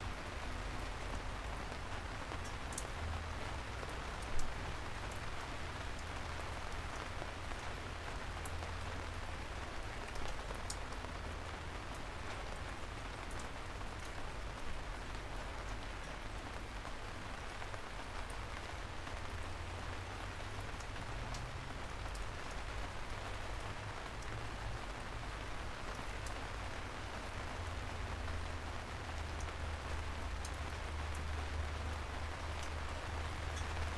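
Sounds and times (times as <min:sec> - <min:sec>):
raindrops ticking sharply: 0:00.0 - 0:33.9
steady rain falling: 0:00.0 - 0:33.9.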